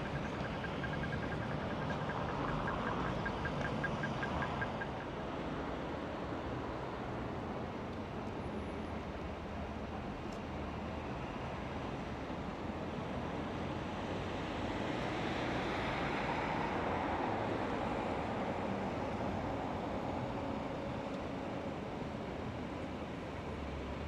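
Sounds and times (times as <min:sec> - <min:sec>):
steady road hum: 0:00.0 - 0:24.0.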